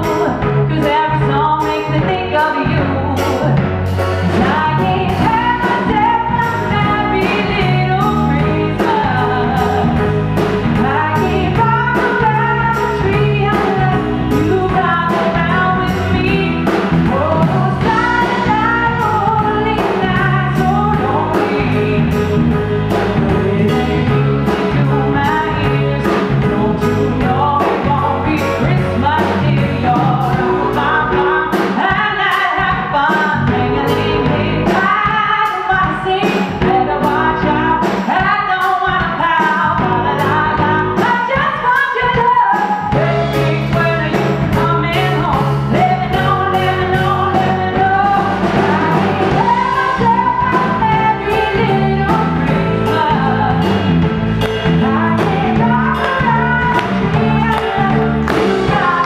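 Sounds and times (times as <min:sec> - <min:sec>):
band playing: 0:00.0 - 0:59.0
woman singing: 0:00.0 - 0:59.0
drums beat: 0:03.5 - 0:59.0.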